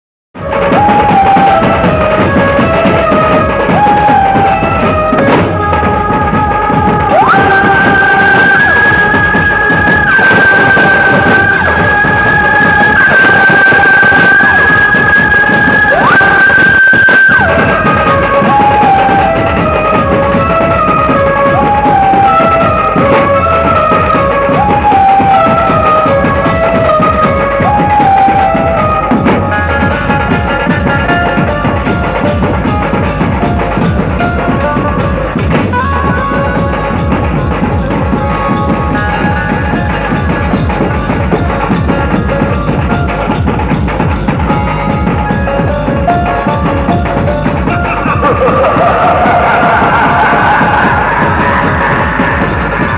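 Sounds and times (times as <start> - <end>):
fast dense drumming: 0.4 - 52.9
high wind instrument melody: 0.4 - 52.9.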